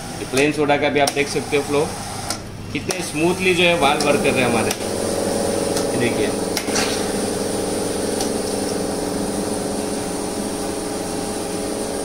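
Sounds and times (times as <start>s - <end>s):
soda machine motor hum: 0.0s - 12.0s.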